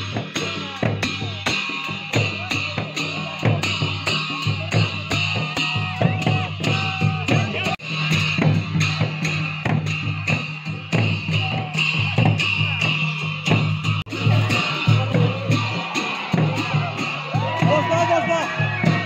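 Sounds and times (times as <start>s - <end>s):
music with steady beat and bass: 0.0s - 19.0s.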